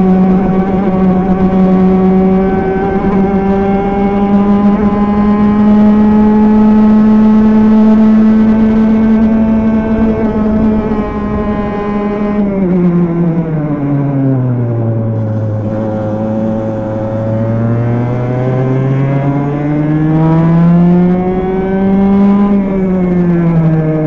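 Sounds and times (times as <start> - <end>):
kart engine revving: 0.0 - 24.0.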